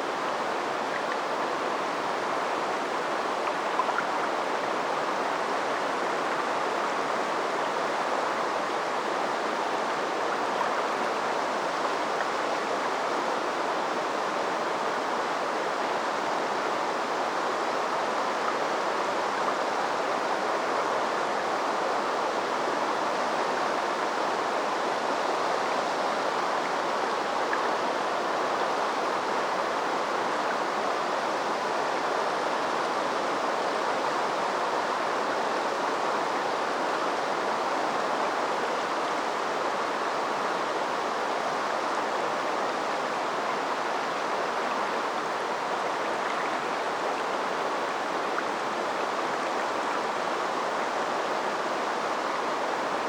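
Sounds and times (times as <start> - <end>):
river water babbling: 0.0 - 53.0.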